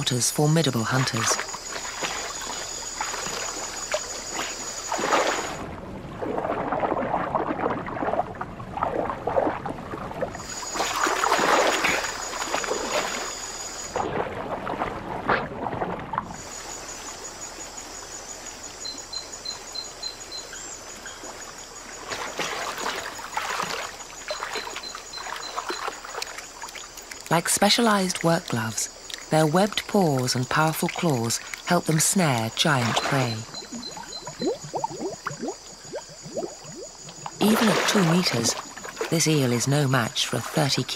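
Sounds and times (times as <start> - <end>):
water splashing and sloshing: 0.0 - 40.9.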